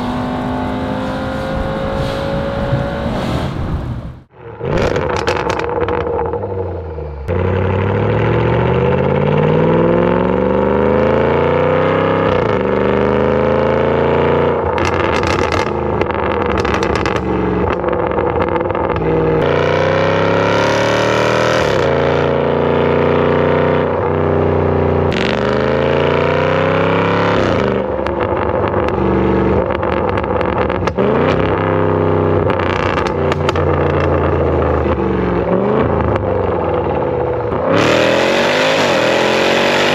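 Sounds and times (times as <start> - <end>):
car engine accelerating hard: 0.0 - 39.9.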